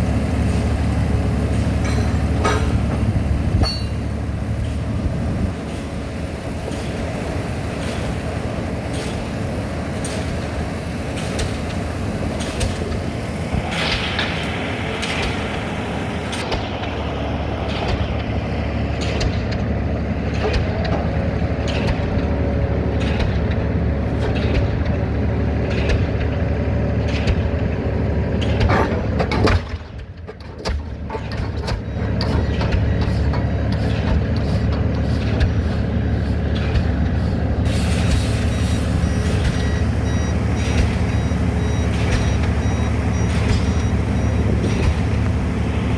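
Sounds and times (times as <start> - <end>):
rig engine drone: 0.0 - 45.9.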